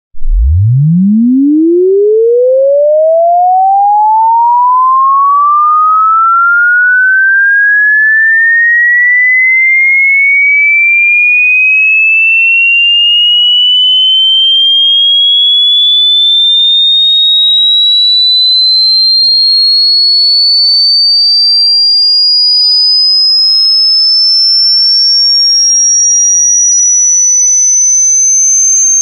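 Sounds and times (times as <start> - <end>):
rising sine-wave tone sweep: 0.2 - 29.0.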